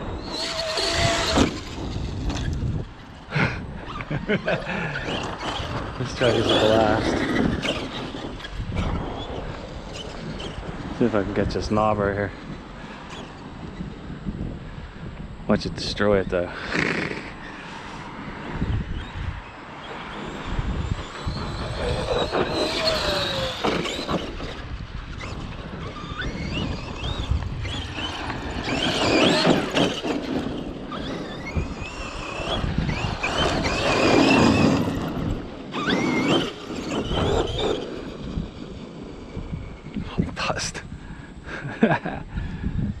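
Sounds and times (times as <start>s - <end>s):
rc truck electric motor whining: 0.0s - 11.2s, 12.5s - 40.3s
wind buffeting microphone: 0.0s - 43.0s.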